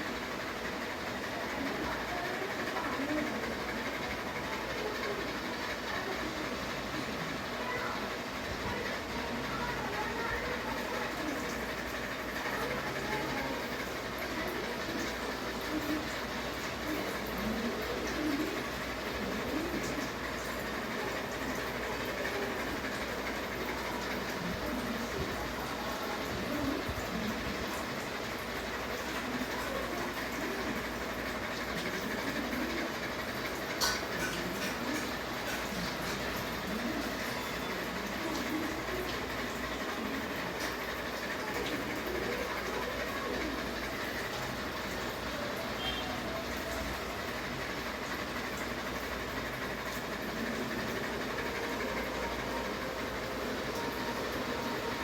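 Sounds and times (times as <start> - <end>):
ceiling fan running: 0.0 - 55.0.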